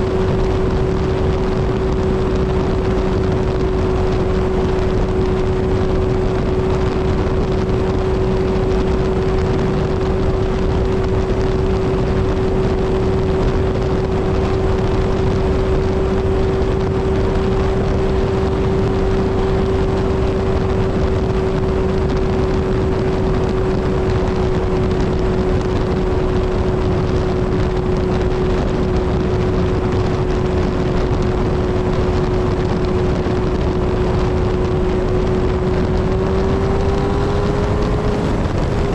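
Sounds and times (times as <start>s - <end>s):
motorcycle engine droning: 0.0s - 38.9s
wind rushing: 0.0s - 38.9s.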